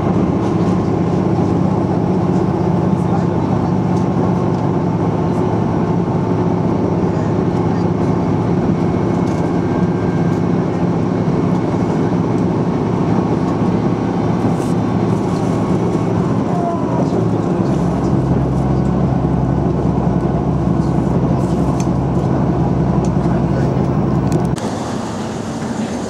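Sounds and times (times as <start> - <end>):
diesel railcar engine drone: 0.0 - 26.0.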